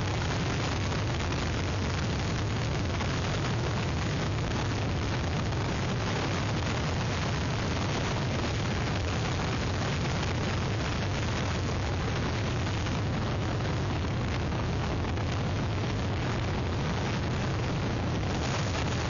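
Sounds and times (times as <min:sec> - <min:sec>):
strong wind on microphone: 0:00.0 - 0:19.0.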